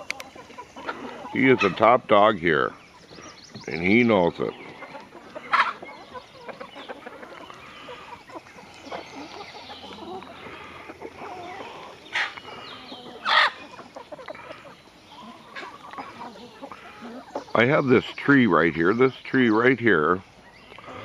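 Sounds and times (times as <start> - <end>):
chickens clucking softly: 0.0 - 21.0
sharp chicken calls: 0.0 - 21.0.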